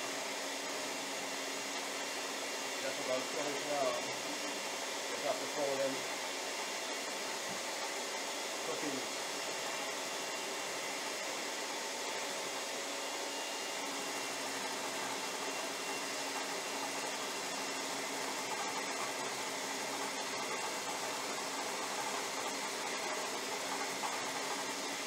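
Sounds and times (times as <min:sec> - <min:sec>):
stand mixer motor whirring: 0:00.0 - 0:25.0.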